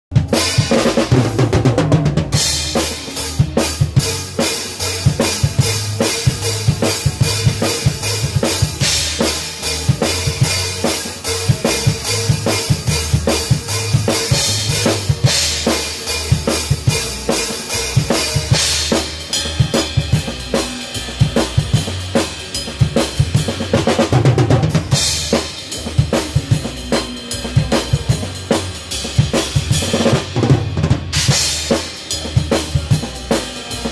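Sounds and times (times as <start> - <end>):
band playing: 0.1 - 33.9
drum kit playing: 0.1 - 33.9.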